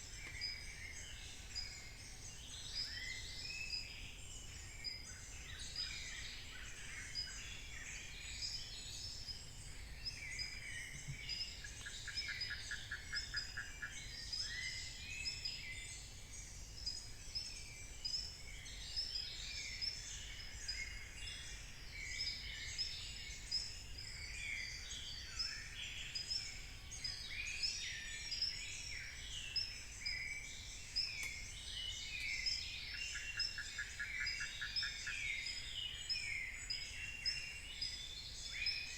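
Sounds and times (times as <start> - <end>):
forest birds chirping and whistling: 0.0 - 38.9.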